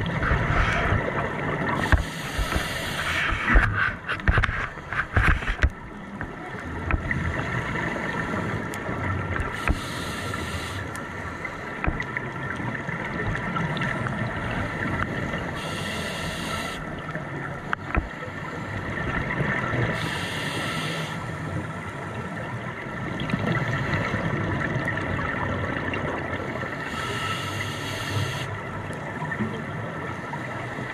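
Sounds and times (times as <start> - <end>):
steady underwater hum and hiss: 0.0 - 30.9.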